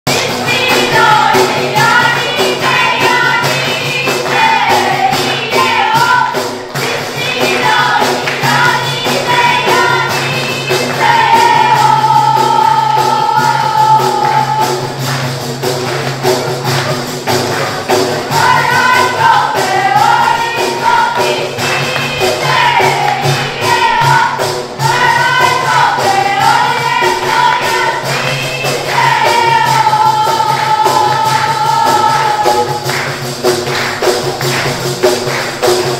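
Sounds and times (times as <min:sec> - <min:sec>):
frame drums beating: 0:00.1 - 0:35.9
people singing together: 0:00.1 - 0:35.9.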